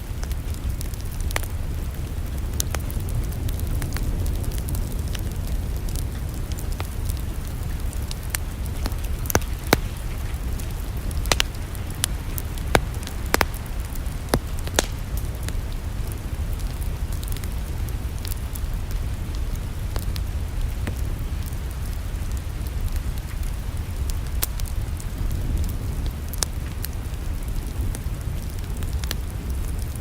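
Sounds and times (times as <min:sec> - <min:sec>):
sharp fire pops: 0:00.0 - 0:30.0
steady low rumble: 0:00.0 - 0:30.0
wood fire crackling: 0:00.0 - 0:30.0.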